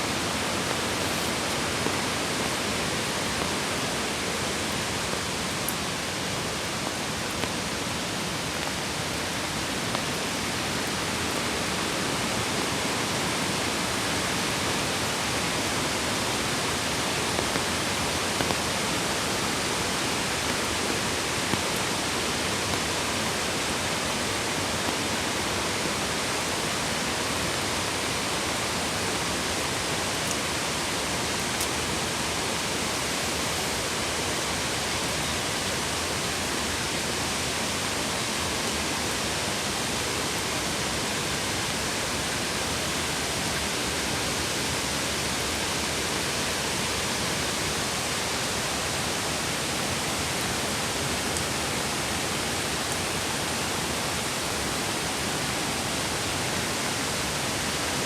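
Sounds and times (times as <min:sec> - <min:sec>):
creek flowing over stones: 0:00.0 - 0:58.0.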